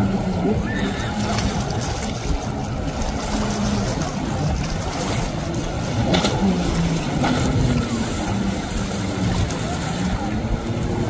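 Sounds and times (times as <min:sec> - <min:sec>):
jet ski engine: 0:00.0 - 0:11.0
rush of water and wind: 0:00.0 - 0:11.0.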